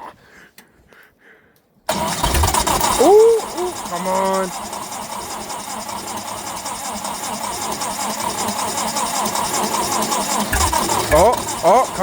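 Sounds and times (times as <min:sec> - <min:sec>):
engine cranking on starter: 0:01.9 - 0:12.0.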